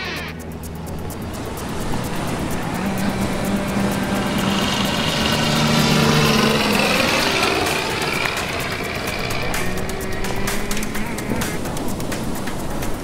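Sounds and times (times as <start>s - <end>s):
small motor passing by: 0.0s - 13.0s.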